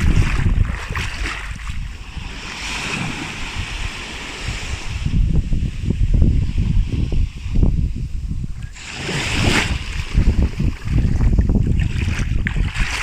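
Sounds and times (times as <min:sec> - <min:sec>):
surf washing onto beach: 0:00.0 - 0:07.4, 0:08.7 - 0:13.0
wind buffeting microphone: 0:00.0 - 0:13.0.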